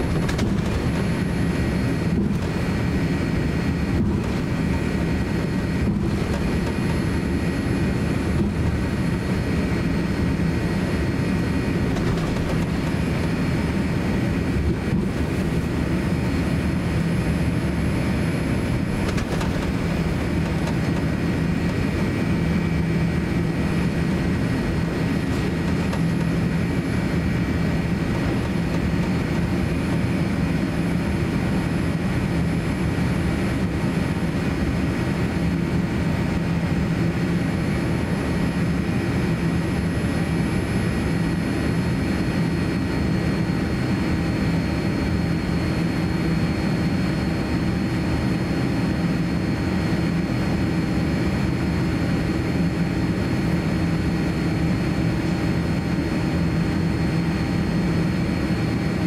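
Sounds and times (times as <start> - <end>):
jet engine and cabin air hum: 0.0 - 59.0.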